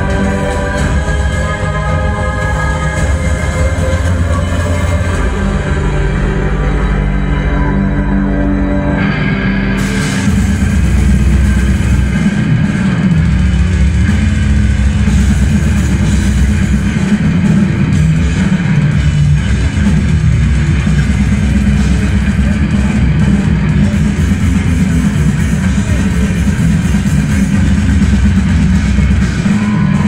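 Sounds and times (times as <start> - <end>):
eerie sustained intro: 0.0 - 30.0
live death metal band: 0.0 - 30.0.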